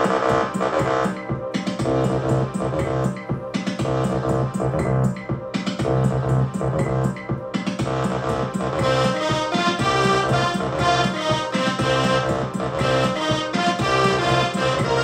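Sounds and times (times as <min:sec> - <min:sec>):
bass and synth notes: 0:00.0 - 0:15.0
drum machine beat: 0:00.0 - 0:15.0.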